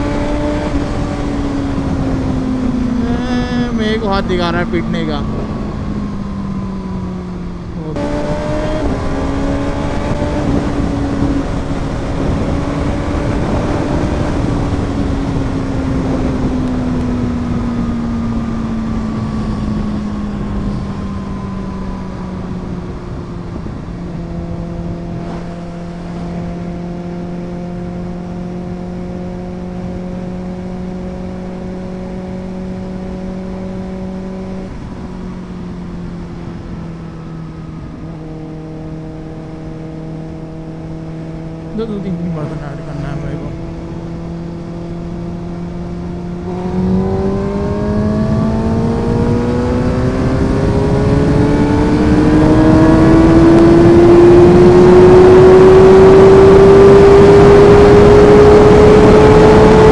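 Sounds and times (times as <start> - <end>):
motorcycle engine: 0.0 - 59.9.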